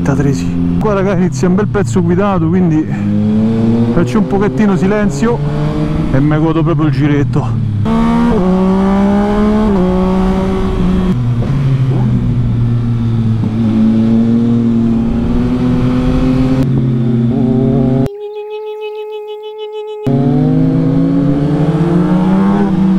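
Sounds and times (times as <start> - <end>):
motorcycle engine revving: 0.0 - 18.1, 20.1 - 22.9.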